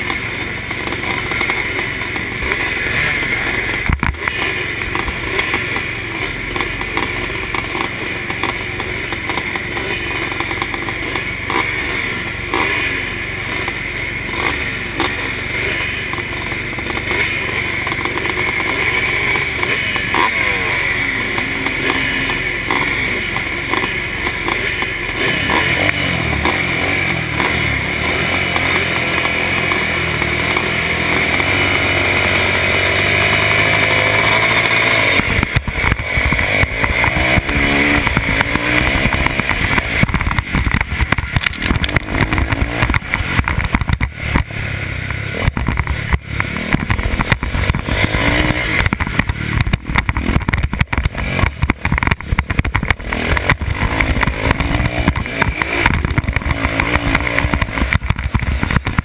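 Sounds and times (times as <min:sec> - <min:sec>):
wind buffeting helmet camera: 0:00.0 - 0:09.7, 0:16.0 - 0:59.0
motocross motorcycle engines revving: 0:00.0 - 0:59.0.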